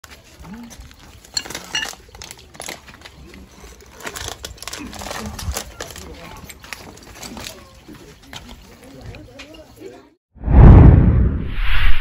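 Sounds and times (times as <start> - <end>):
rustling and crackling: 0.1 - 9.8.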